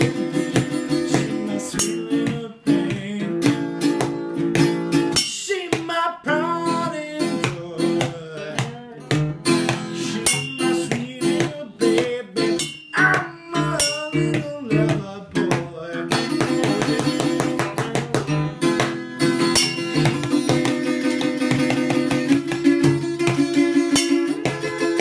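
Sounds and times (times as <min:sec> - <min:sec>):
man singing: 0:00.0 - 0:04.2, 0:05.1 - 0:22.3
acoustic guitar strumming: 0:00.0 - 0:25.0.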